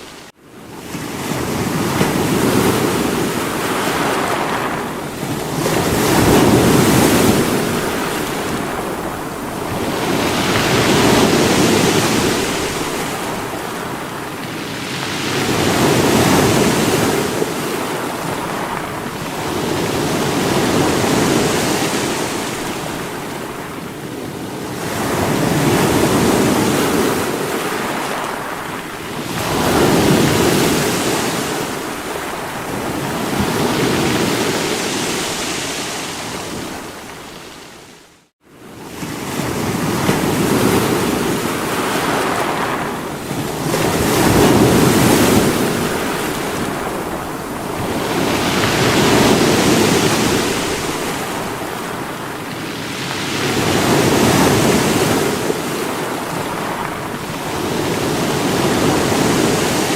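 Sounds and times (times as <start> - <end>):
waves breaking on rocks: 0.7 - 37.9, 38.9 - 59.9.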